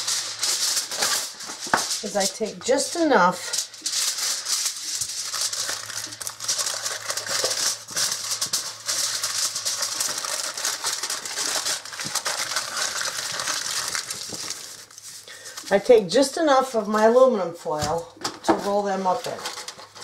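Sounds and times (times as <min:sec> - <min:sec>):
aluminum foil crinkling: 0:00.0 - 0:15.9, 0:18.0 - 0:20.0.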